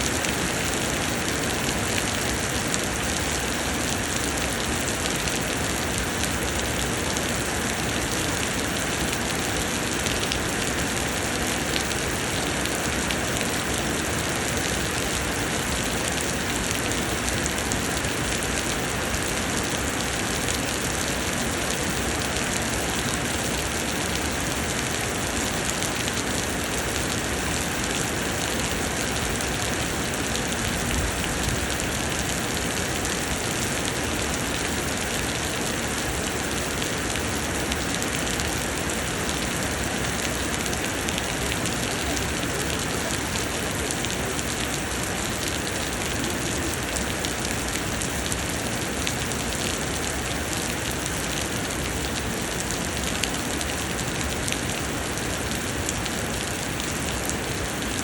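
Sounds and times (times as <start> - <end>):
rain pouring: 0.0 - 58.0.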